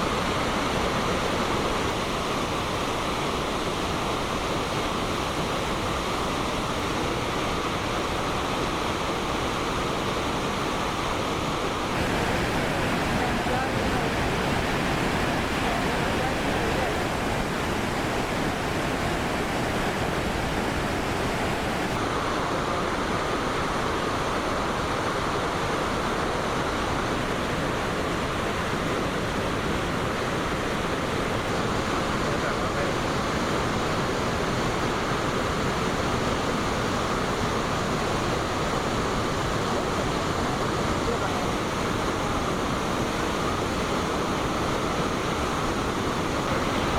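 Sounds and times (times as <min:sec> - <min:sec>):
waterfall roaring: 0:00.0 - 0:46.9.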